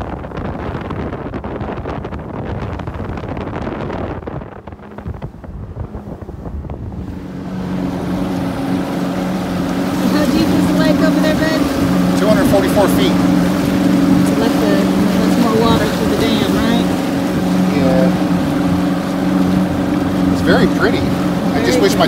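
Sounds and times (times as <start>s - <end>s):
boat motor humming: 0.0s - 22.0s
water rushing: 0.0s - 22.0s
wind buffeting microphone: 0.0s - 22.0s.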